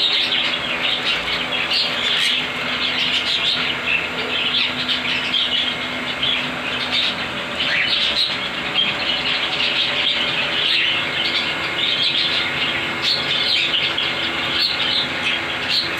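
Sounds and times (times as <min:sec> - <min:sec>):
parrots chirping and chattering: 0:00.0 - 0:15.9.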